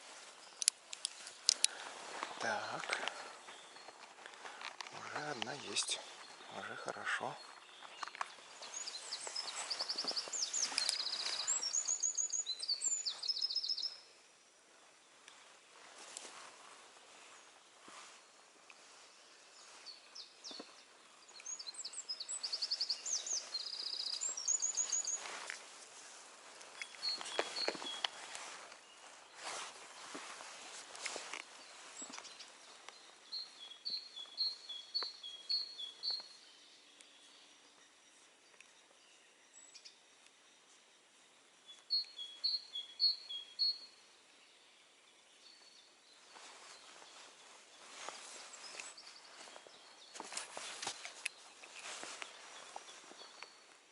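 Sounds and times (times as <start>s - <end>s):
soft rustling footsteps: 0.0s - 13.9s, 14.7s - 36.4s, 45.5s - 53.9s
faint steady hiss: 0.0s - 53.9s
songbird singing trills: 0.3s - 15.6s, 17.0s - 53.9s.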